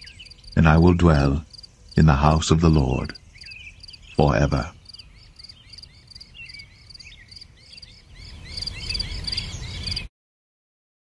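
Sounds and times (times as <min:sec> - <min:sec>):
crickets chirping: 0:00.0 - 0:10.1
hooked rising calls: 0:00.0 - 0:10.1.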